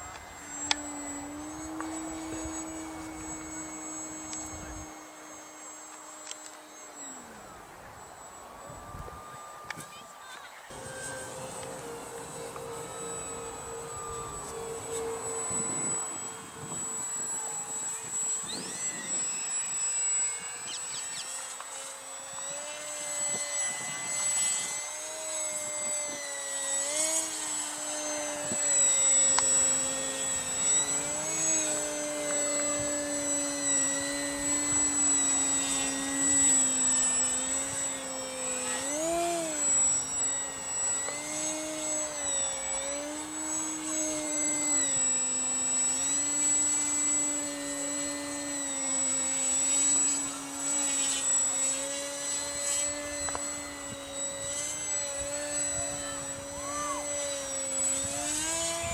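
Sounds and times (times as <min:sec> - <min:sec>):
model airplane engine: 0:00.0 - 0:58.9.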